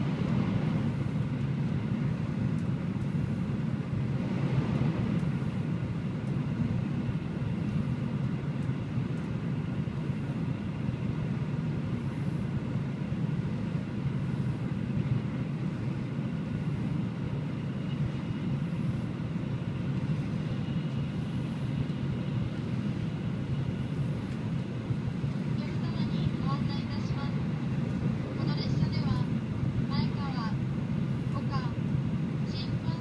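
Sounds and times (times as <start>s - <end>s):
train cabin low rumble: 0.0s - 33.0s.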